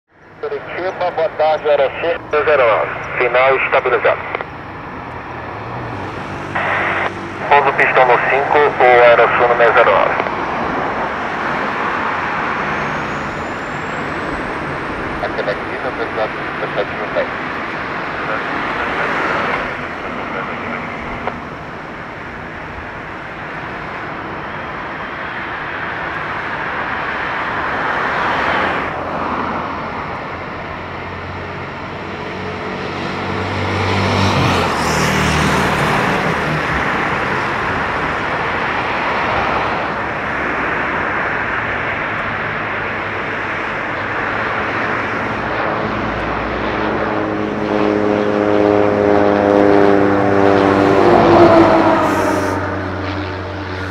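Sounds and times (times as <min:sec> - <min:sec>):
propeller plane engine drone: 0:00.1 - 0:53.9
propeller tones: 0:00.2 - 0:53.9.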